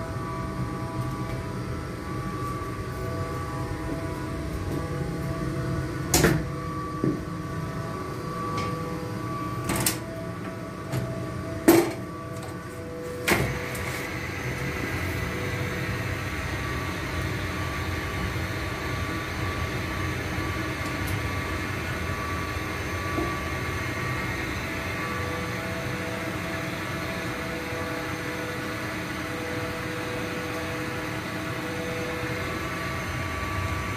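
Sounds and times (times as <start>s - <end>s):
boiler plant mechanical hum: 0.0s - 33.9s
higher machine tone: 0.0s - 33.9s.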